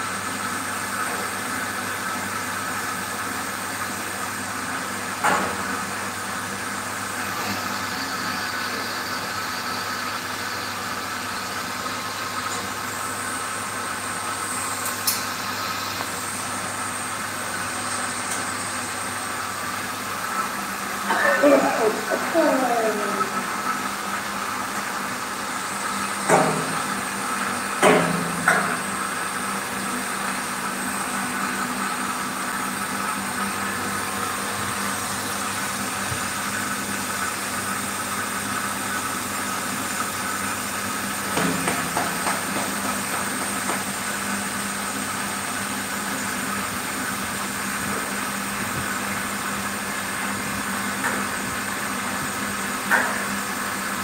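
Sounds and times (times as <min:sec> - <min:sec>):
pump motor humming: 0:00.0 - 0:54.0.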